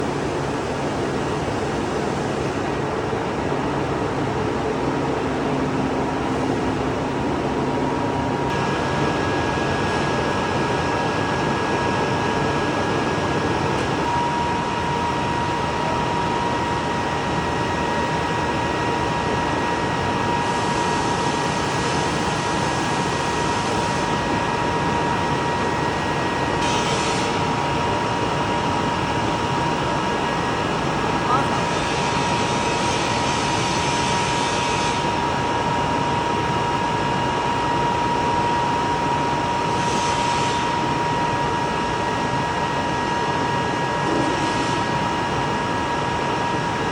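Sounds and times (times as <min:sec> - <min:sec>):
glass cutting machine whine: 0:08.5 - 0:46.7.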